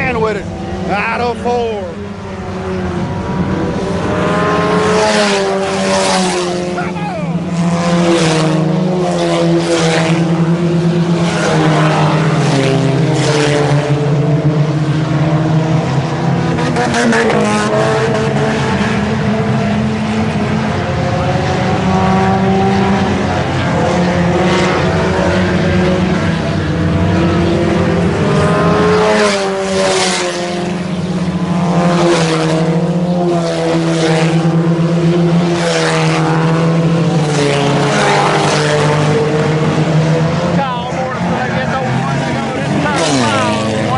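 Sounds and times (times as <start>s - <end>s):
race car engines revving: 0.0s - 43.9s.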